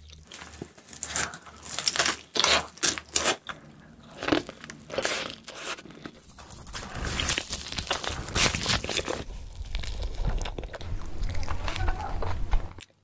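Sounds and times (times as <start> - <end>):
crunchy bites and chewing: 0.0 - 13.0.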